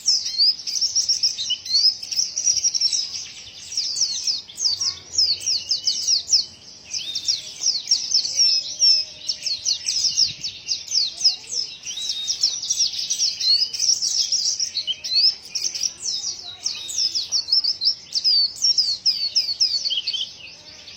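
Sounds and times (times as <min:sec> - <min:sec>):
bird singing high chirps: 0:00.0 - 0:20.9.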